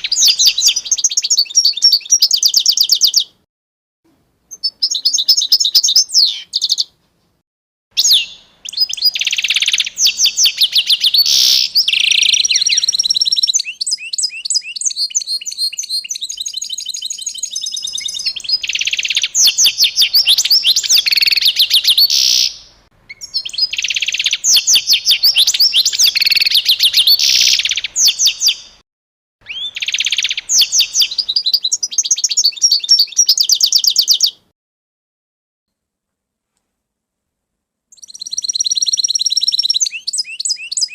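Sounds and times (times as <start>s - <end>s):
songbird trilling: 0.0s - 3.4s, 4.5s - 6.9s, 8.0s - 28.8s, 29.4s - 34.4s, 37.9s - 40.9s.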